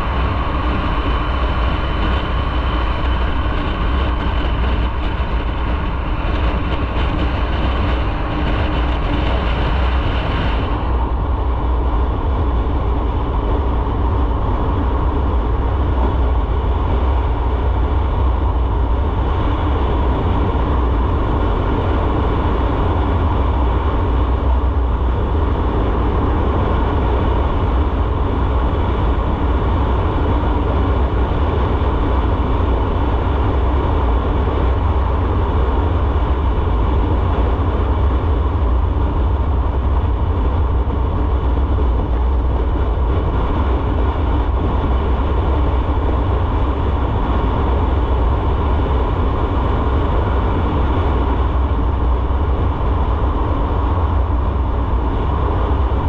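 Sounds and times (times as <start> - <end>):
motorcycle engine and road noise: 0.0 - 56.0
wind buffeting the microphone: 0.0 - 56.0
wind rush: 0.0 - 56.0.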